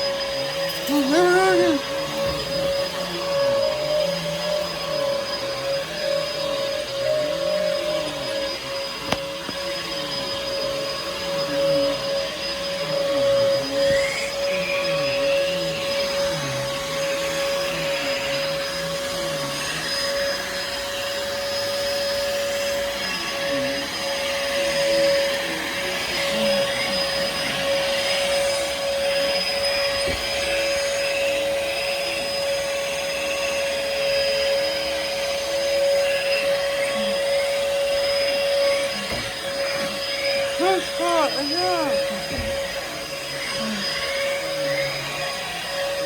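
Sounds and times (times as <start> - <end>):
vacuum cleaner running: 0.0 - 46.0.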